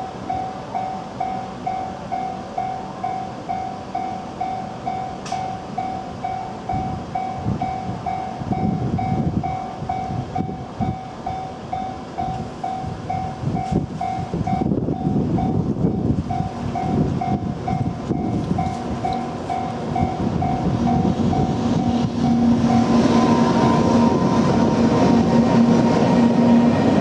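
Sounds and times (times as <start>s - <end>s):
level-crossing warning bell: 0.0s - 26.7s.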